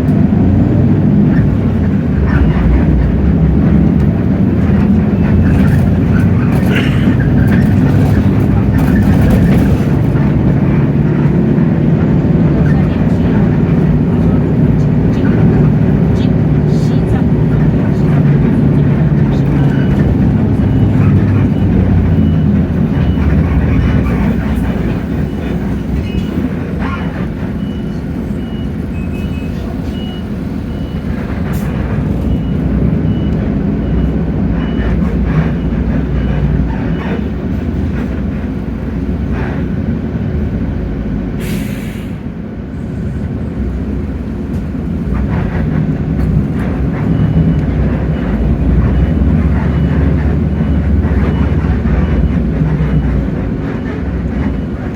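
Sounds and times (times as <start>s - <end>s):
bus diesel engine: 0.0s - 54.9s.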